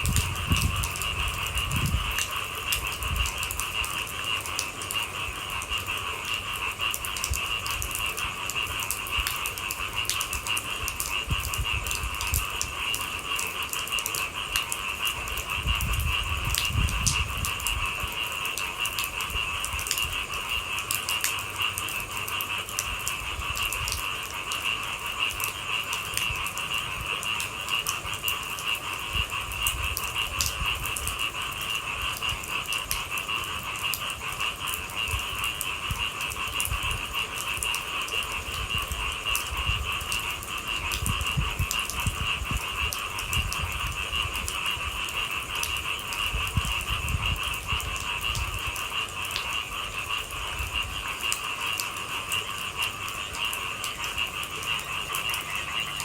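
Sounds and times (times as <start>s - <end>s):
drops ticking: 0.0s - 56.0s
rain falling: 0.0s - 56.0s.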